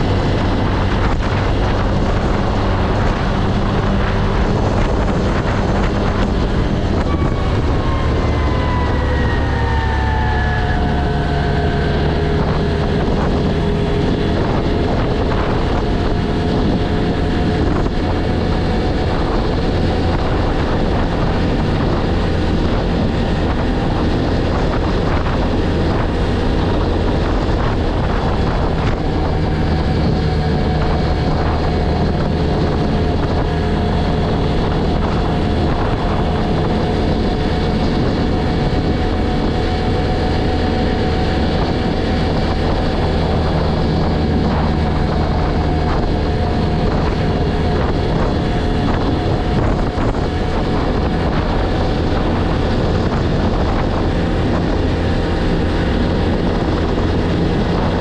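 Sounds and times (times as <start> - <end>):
quad bike engine running: 0.0 - 58.0
wind noise on microphone: 0.0 - 58.0.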